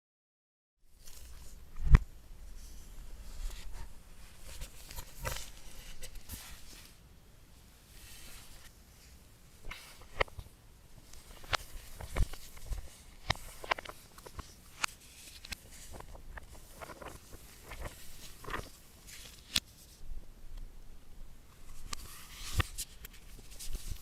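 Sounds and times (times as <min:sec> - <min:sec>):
soft rustling: 0:00.8 - 0:20.1, 0:21.4 - 0:24.0.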